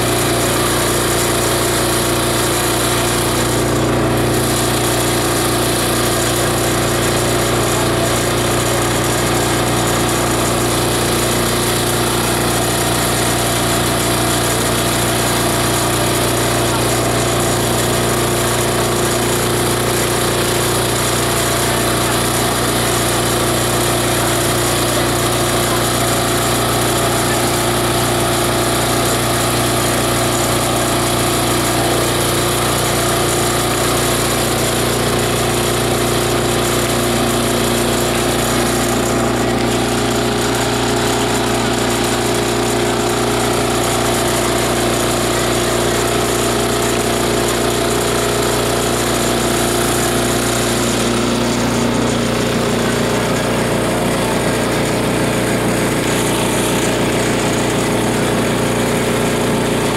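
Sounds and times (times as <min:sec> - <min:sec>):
shredder grinder running: 0:00.0 - 0:59.9.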